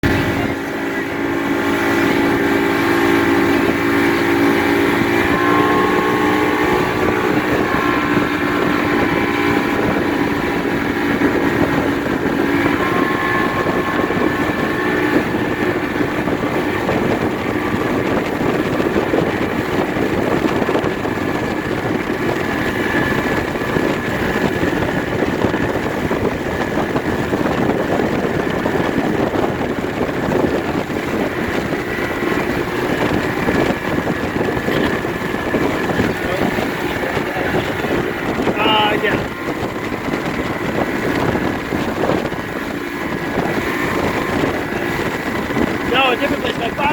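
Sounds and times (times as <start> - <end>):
motorboat engine hum: 0.0 - 46.9
rushing water and wind: 0.0 - 46.9.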